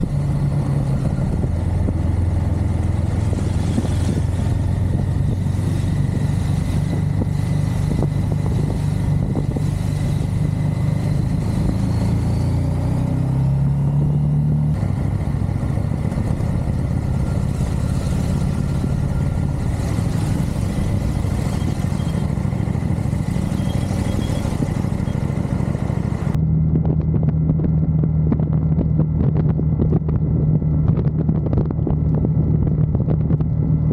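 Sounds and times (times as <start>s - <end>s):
motorcycle engine: 0.0s - 33.9s
wind and road noise: 0.0s - 33.9s.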